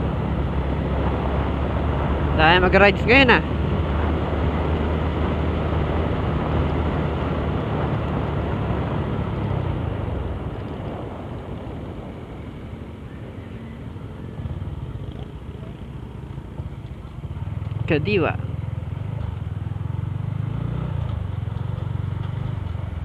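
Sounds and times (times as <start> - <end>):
motorcycle engine running: 0.0 - 23.0
wind and road rush: 0.0 - 23.0.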